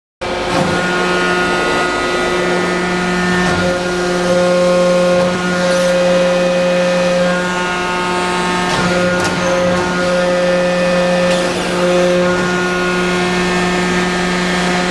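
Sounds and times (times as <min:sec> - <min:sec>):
machine hum: 0:00.2 - 0:14.9.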